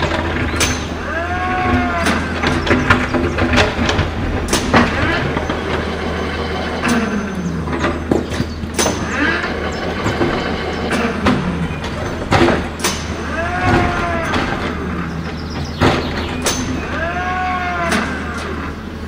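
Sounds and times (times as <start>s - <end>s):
clicks and knocks: 0.0s - 17.2s
toy excavator motor humming: 0.0s - 19.0s.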